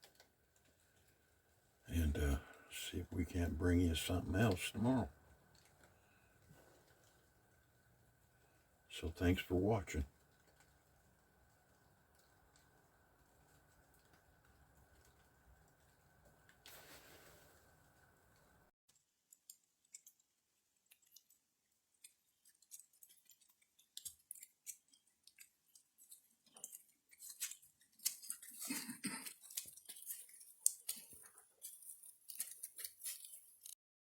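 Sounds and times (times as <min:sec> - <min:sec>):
faint crackling and clicking: 0:00.0 - 0:33.8.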